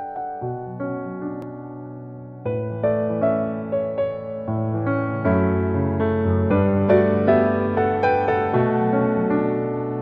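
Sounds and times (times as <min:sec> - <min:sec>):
slow keyboard melody: 0:00.0 - 0:10.0.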